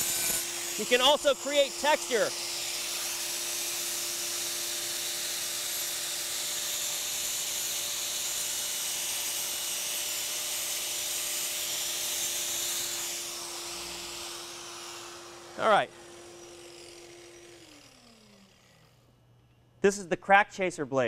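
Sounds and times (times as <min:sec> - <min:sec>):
angle grinder on concrete: 0:00.0 - 0:19.2.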